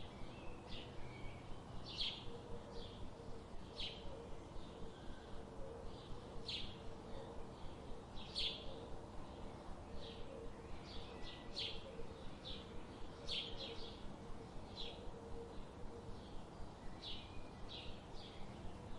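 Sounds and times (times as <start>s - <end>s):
small birds chirping: 0.0s - 18.9s
steady background hiss: 0.0s - 18.9s.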